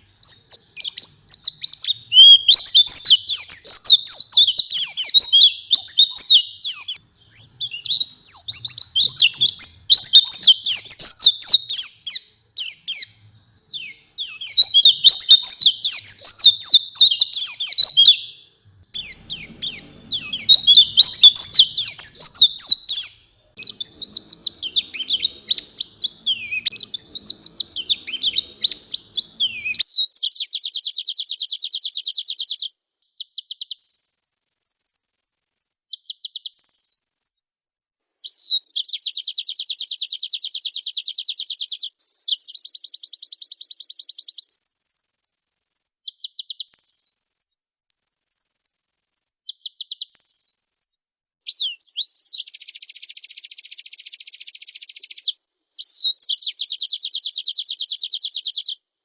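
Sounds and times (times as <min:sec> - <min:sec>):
bird twittering song: 0:00.0 - 0:37.4, 0:38.2 - 0:58.8.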